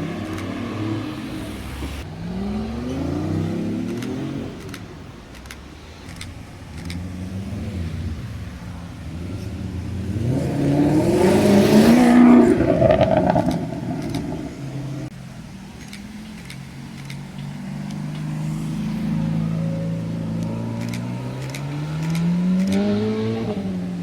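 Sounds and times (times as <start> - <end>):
sports car engine accelerating: 0.0 - 5.2, 6.1 - 24.0
quiet engine running: 3.9 - 24.0.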